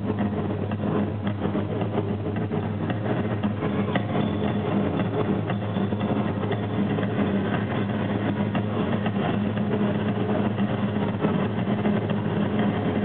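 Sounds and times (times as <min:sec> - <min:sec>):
constant wash of noise: 0:00.0 - 0:13.0
loud low hum: 0:00.0 - 0:13.0.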